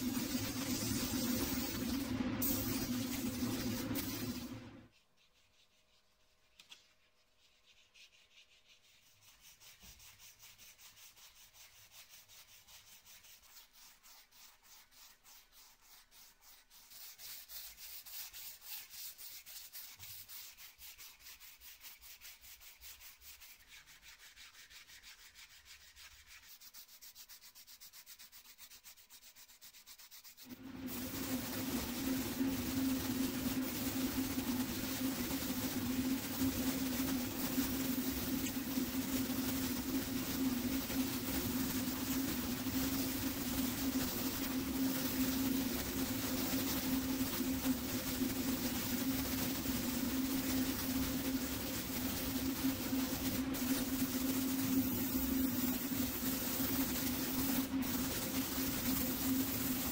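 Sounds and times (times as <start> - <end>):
hand sanding strokes: 0.0 - 59.9.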